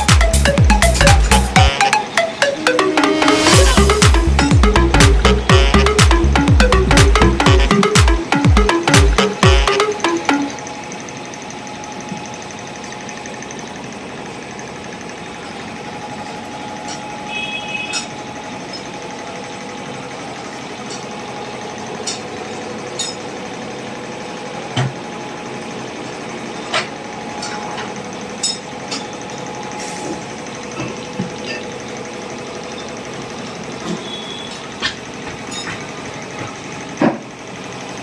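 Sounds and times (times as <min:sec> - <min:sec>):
mechanical hum: 0:00.0 - 0:38.0.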